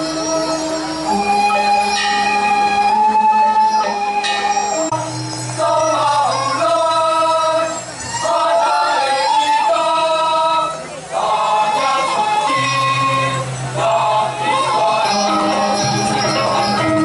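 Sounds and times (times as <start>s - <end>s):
metallophones ringing melody: 0.0s - 17.0s.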